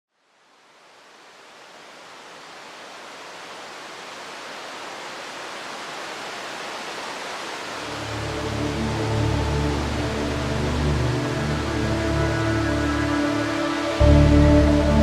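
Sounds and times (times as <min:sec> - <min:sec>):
small waterfall rushing: 0:00.1 - 0:15.0.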